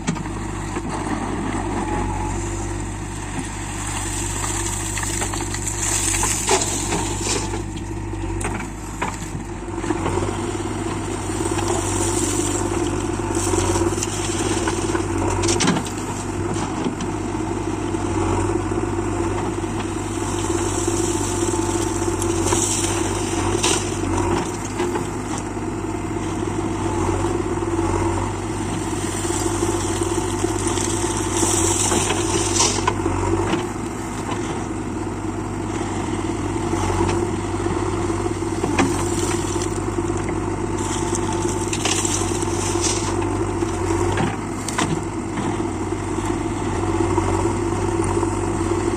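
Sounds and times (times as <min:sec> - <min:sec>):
diesel engine running: 0:00.0 - 0:48.9
scraping and falling earth: 0:00.7 - 0:17.2, 0:19.2 - 0:34.8, 0:36.6 - 0:46.4.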